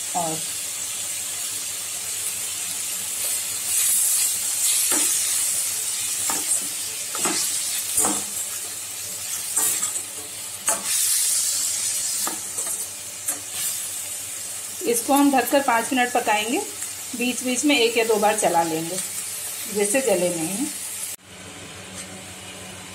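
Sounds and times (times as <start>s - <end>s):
vegetables sizzling in a pan: 0.0s - 22.9s.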